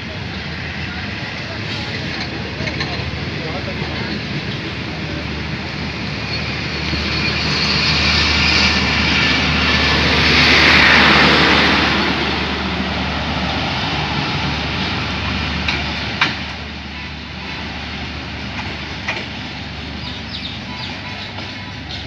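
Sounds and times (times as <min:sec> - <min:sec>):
train coaches rolling on rails: 0:00.0 - 0:22.0.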